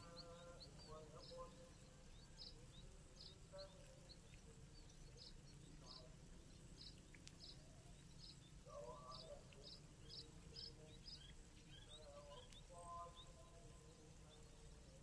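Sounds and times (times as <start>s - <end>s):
faint low-pitched sounds: 0.0s - 15.0s
faint open-air ambience: 0.0s - 15.0s
small bird chirping: 0.0s - 15.0s.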